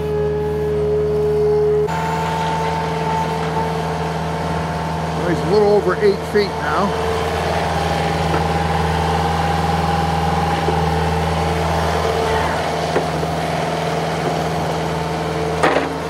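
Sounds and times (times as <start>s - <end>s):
excavator diesel engine: 0.0s - 16.0s
high whine: 0.0s - 16.0s.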